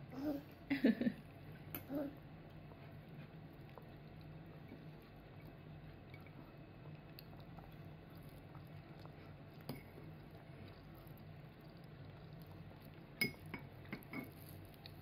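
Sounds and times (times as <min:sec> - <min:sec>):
low steady hum: 0:00.0 - 0:15.0
soft chewing: 0:00.4 - 0:15.0.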